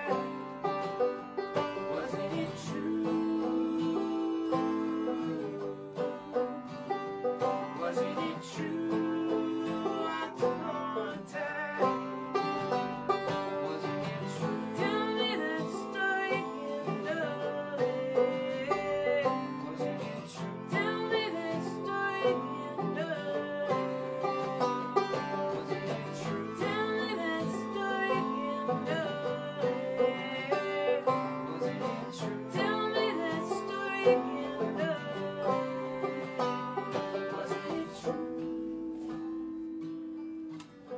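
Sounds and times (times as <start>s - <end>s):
woman singing: 0.0s - 0.4s, 1.8s - 6.7s, 7.5s - 12.0s, 13.8s - 40.6s
acoustic guitar playing: 0.0s - 40.9s
banjo playing: 0.0s - 40.9s.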